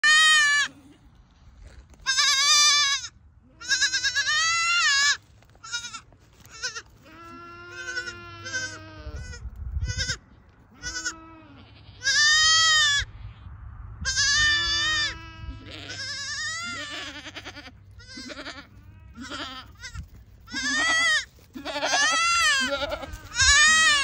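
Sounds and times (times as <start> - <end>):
baby goat bleating: 0.0 - 0.8, 2.0 - 13.1, 14.0 - 24.0.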